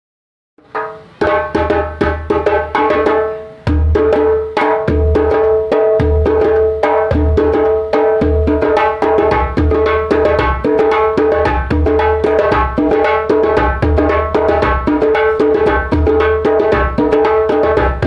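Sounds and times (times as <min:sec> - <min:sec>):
hand drum playing: 0:00.6 - 0:18.0.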